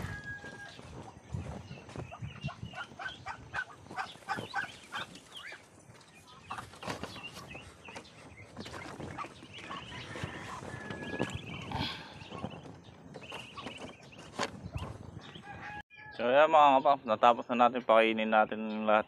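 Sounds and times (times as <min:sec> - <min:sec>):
poultry calling: 0:00.0 - 0:16.4.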